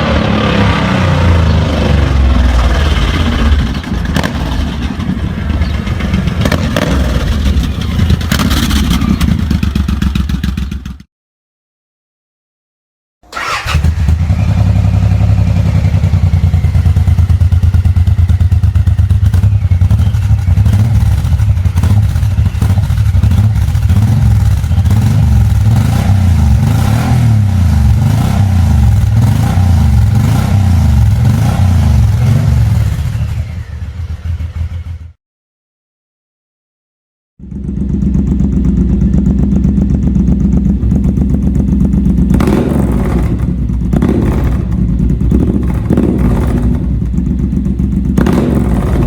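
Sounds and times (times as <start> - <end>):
motorcycle engine revving: 0.0 - 11.1, 13.2 - 35.2, 37.4 - 49.0.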